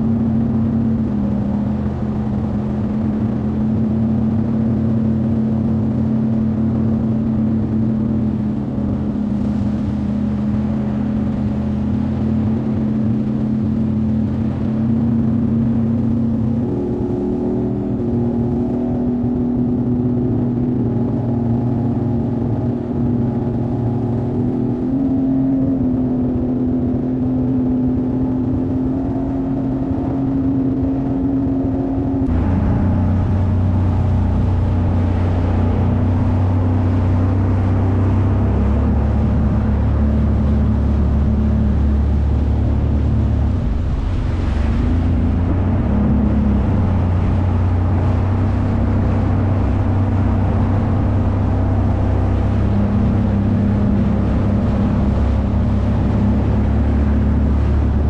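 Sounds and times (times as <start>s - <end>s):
jet ski engine running: 0.0s - 58.0s
rushing water and wind: 0.0s - 58.0s.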